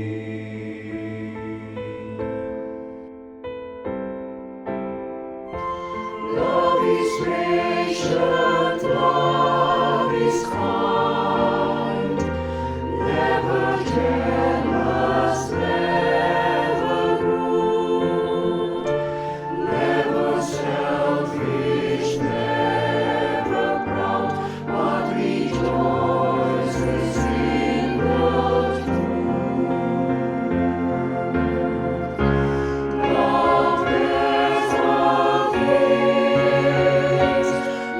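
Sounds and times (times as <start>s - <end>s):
mixed choir singing in harmony: 0.0s - 3.0s, 5.5s - 37.9s
keyboard accompaniment: 0.0s - 37.9s.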